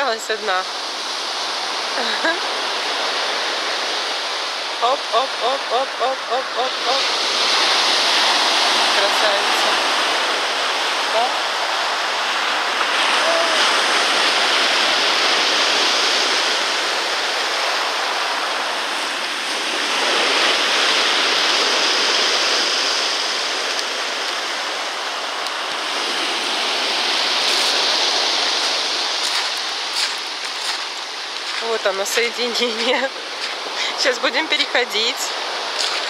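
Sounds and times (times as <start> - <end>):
sea surf on pebble beach: 0.0 - 36.0.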